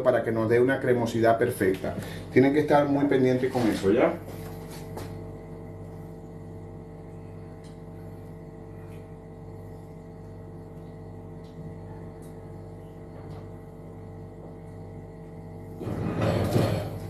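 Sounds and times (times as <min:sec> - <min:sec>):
droning hum: 0:00.0 - 0:17.0.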